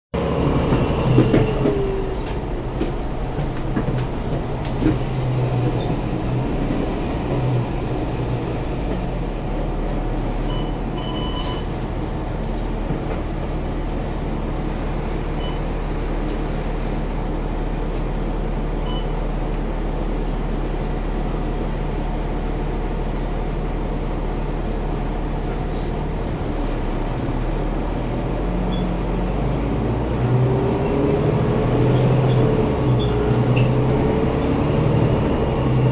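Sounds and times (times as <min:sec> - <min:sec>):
bus engine idling: 0:00.2 - 0:35.9.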